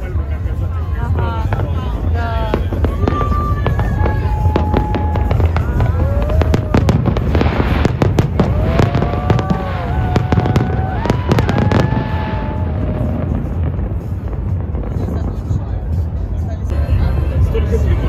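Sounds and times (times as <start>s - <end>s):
fireworks bangs and crackles: 0.0s - 18.0s
steady low rumble: 0.0s - 18.0s.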